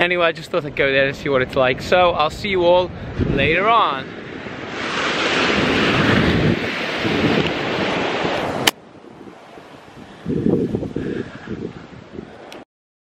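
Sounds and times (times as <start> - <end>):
wind buffeting microphone: 0.5 - 12.6
ocean surf breaking on beach: 2.0 - 12.6.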